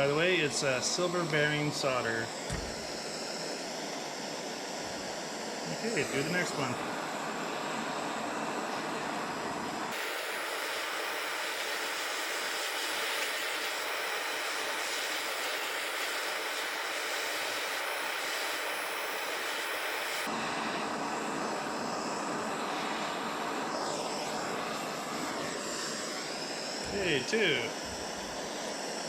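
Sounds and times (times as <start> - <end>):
gas torch hissing: 0.0 - 29.0.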